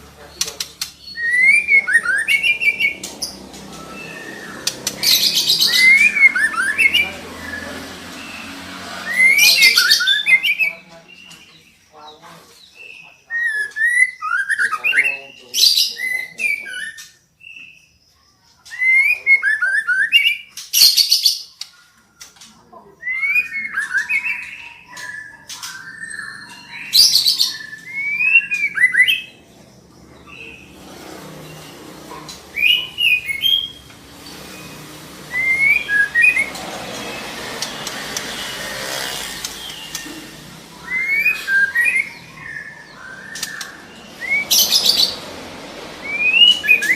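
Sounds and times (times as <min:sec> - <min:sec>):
bird whistled chirps and rasps: 0:00.3 - 0:11.9, 0:12.6 - 0:22.3, 0:22.9 - 0:46.9.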